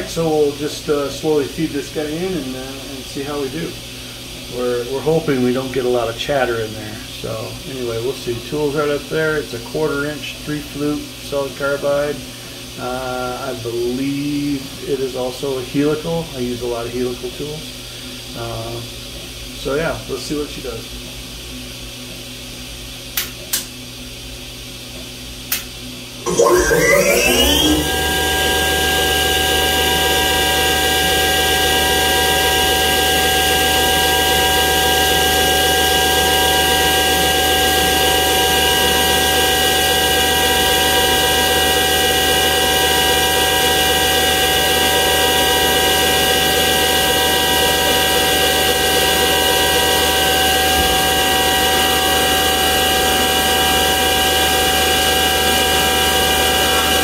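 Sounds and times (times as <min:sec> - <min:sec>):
milling machine spindle whine: 0:00.0 - 0:18.9, 0:26.2 - 0:57.0.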